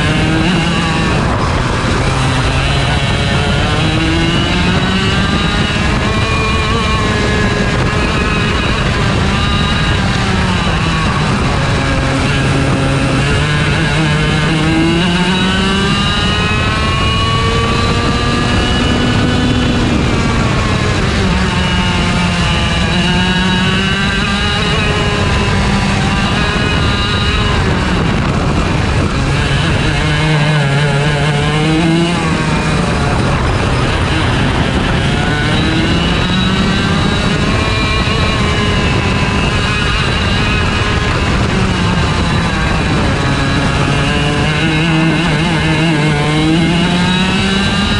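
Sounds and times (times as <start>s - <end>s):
kart engine at full throttle: 0.0s - 47.9s.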